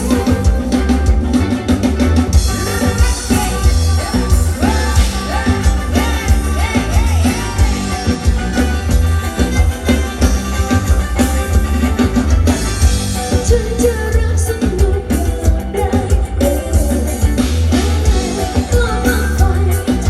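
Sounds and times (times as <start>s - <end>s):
person singing: 0.0s - 1.1s, 2.5s - 10.9s, 13.2s - 20.0s
rock band playing: 0.0s - 20.0s.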